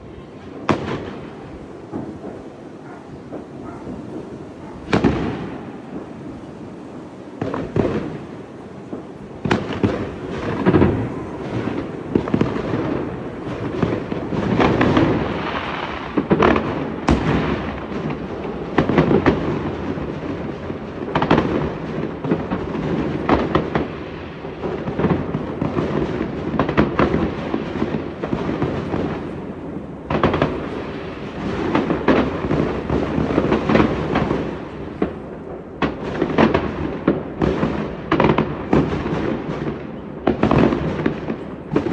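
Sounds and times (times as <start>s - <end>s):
fireworks crackling: 0.0s - 41.9s.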